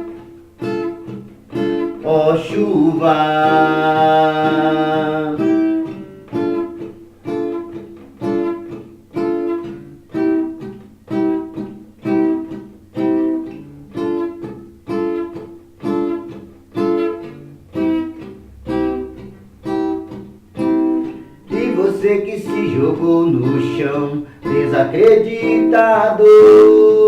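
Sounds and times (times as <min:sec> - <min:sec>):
plucked string instrument notes: 0:00.0 - 0:27.0.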